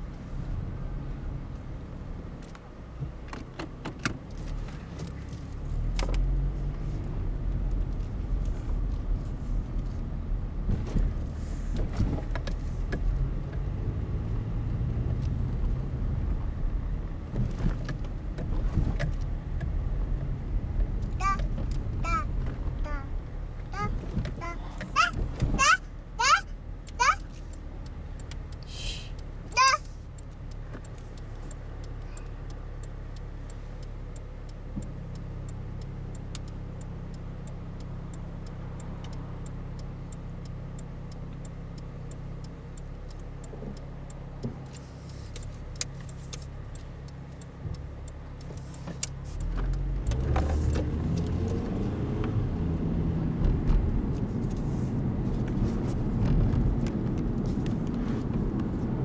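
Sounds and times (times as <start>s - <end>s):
car engine idling: 0.0s - 50.7s
car driving off: 0.0s - 59.0s
road noise: 0.0s - 59.0s.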